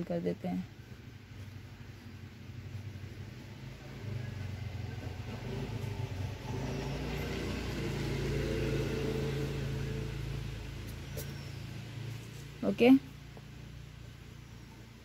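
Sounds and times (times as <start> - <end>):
vehicle engine passing: 0.6 - 15.0.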